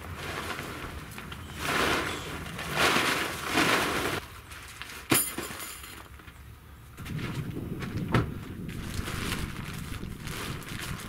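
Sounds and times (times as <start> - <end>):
plastic groundsheet rustling: 0.0 - 11.0.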